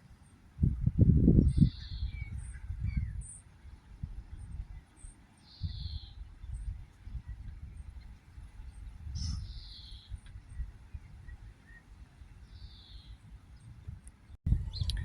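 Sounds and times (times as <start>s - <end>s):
faint bird chirps: 1.4s - 13.8s, 14.5s - 15.0s.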